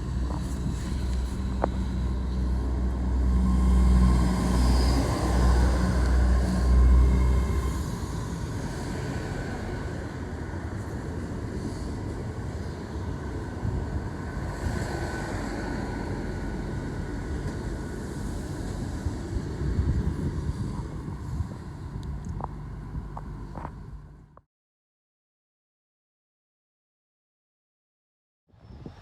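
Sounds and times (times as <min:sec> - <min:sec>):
train rumbling: 0:00.0 - 0:24.4.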